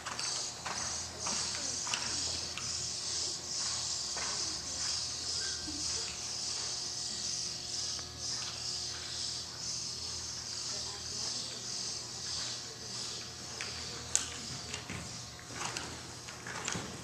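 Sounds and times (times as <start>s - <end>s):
pulsing high-pitched hiss: 0.0s - 15.2s.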